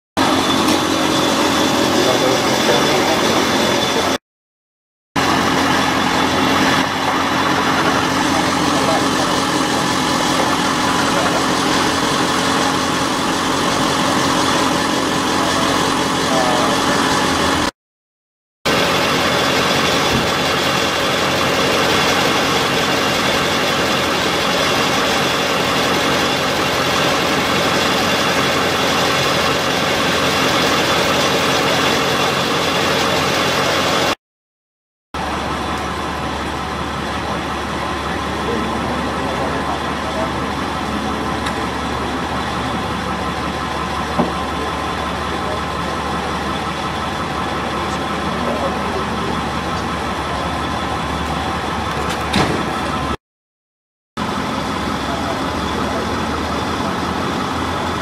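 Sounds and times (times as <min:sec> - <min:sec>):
vehicle engine idling: 0:00.2 - 0:04.2, 0:05.2 - 0:17.7, 0:18.7 - 0:34.2, 0:35.2 - 0:53.2, 0:54.2 - 0:58.0.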